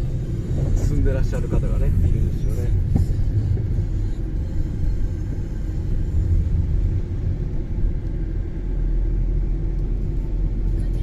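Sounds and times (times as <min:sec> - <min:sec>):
car engine: 0:00.0 - 0:11.0
tyre road noise: 0:00.0 - 0:11.0.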